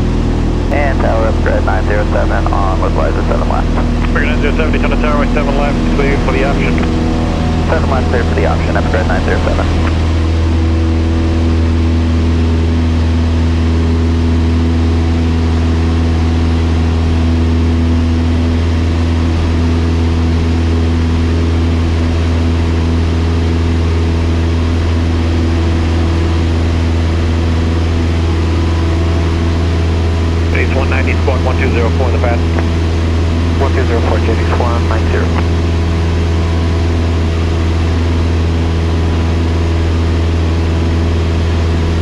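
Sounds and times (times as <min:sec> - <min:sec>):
airplane engine drone from cabin: 0:00.0 - 0:42.0.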